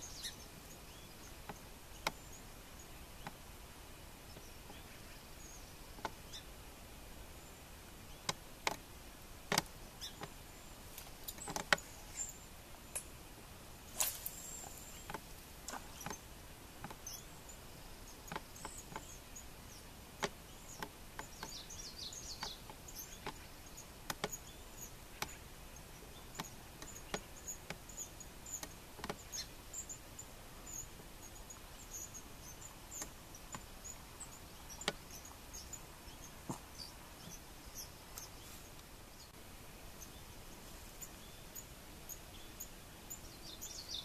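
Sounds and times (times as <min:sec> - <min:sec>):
low background hiss: 0:00.0 - 0:44.0.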